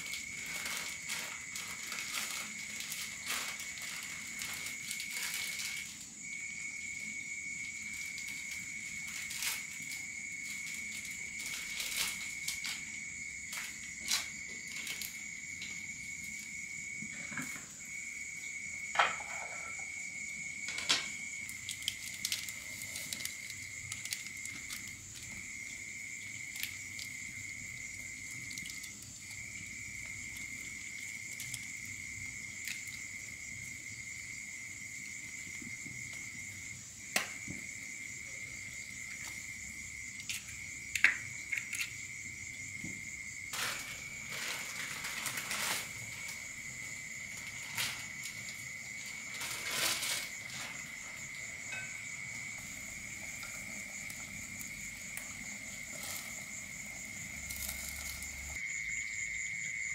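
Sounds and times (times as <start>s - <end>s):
high-pitched insect trill: 0.0s - 59.9s
higher insect trill: 0.0s - 59.9s.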